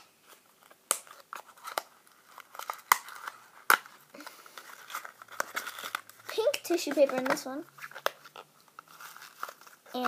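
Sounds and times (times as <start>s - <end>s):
tissue paper crinkling: 0.2s - 10.0s.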